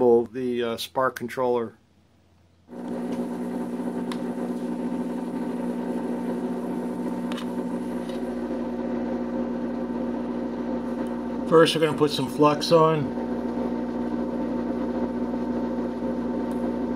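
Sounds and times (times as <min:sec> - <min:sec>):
steady machine hum: 0:02.0 - 0:16.9.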